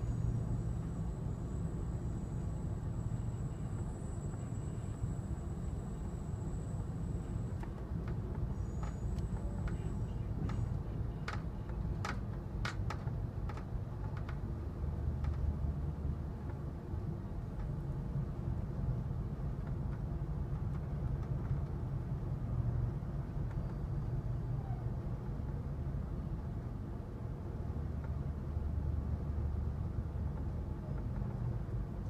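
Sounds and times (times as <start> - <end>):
train car rumbling on track: 0.0 - 32.0.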